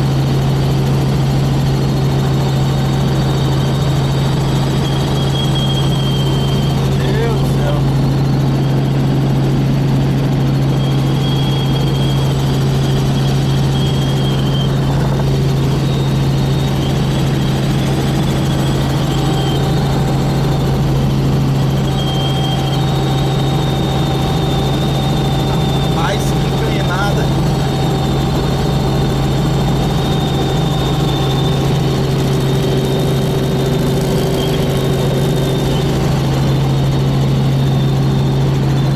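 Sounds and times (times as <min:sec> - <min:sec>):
faint steady whines: 0:00.0 - 0:38.9
helicopter drone: 0:00.0 - 0:38.9.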